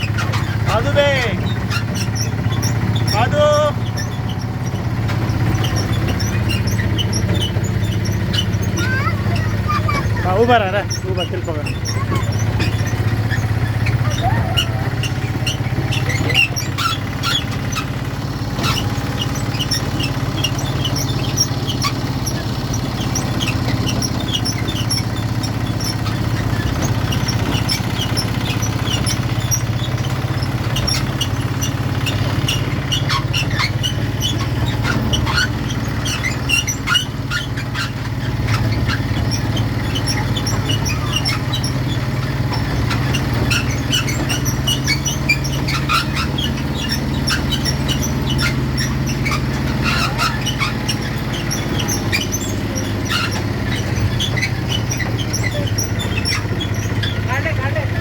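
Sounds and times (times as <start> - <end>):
high squeaks: 0.0 - 58.0
toy train low hum: 0.0 - 58.0.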